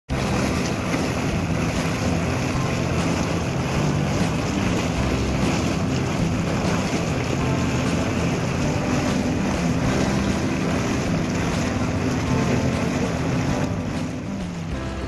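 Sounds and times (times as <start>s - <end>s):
wind buffeting microphone: 0.1s - 14.8s
boat motor hum: 0.1s - 15.0s
water rushing past: 0.1s - 15.0s.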